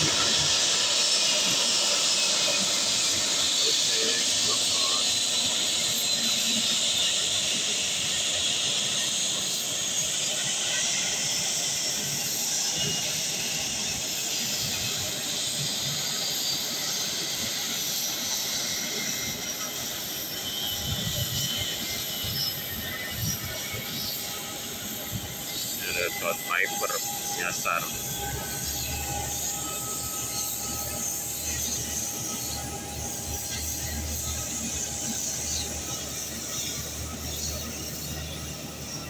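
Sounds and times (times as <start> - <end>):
jet engines whining at taxi power: 0.0 - 39.0.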